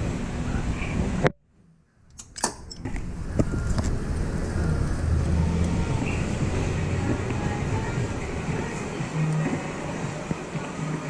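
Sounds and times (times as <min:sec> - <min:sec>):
car engine humming: 0:02.1 - 0:11.0.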